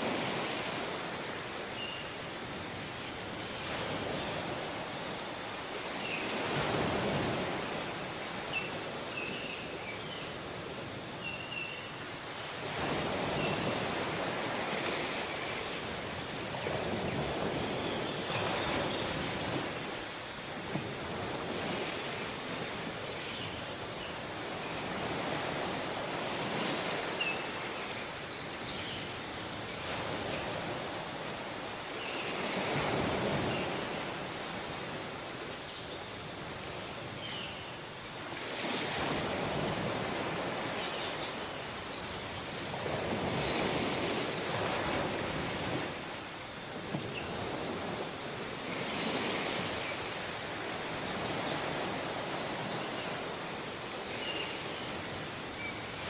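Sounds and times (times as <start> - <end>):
waves washing onto beach: 0.0 - 11.2, 11.8 - 56.0.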